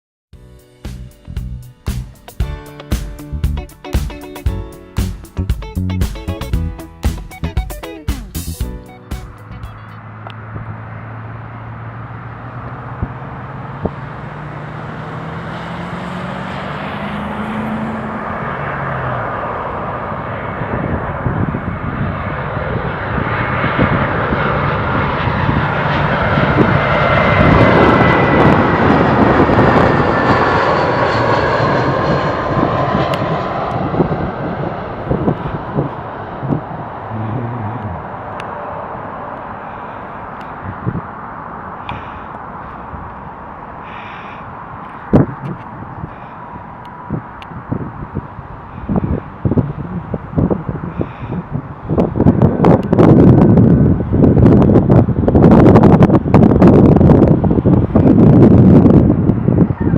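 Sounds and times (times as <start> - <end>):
jet airliner passing low: 2.1 - 59.9.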